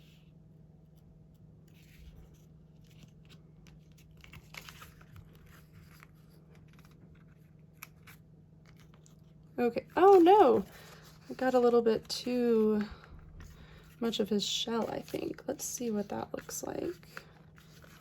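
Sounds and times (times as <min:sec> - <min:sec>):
steady low hum: 0:00.0 - 0:18.0
sticker paper scratching and crinkling: 0:01.7 - 0:18.0.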